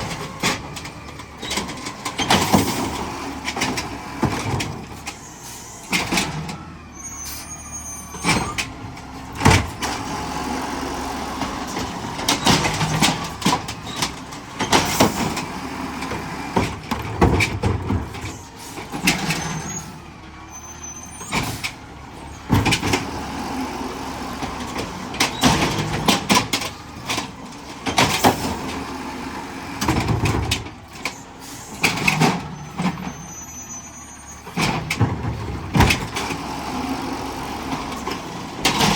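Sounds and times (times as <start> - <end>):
garbage truck engine hum: 0.0 - 38.9.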